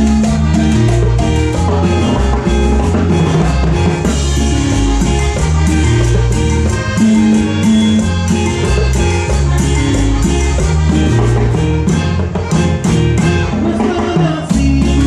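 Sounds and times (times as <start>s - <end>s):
bright melodic instruments: 0.0s - 15.0s
steady percussion: 0.0s - 15.0s
walking bass line: 0.0s - 15.0s.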